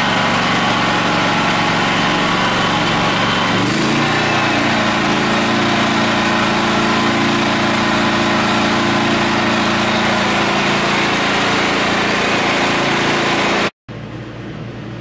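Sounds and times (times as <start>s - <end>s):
generator engine running: 0.0s - 14.3s.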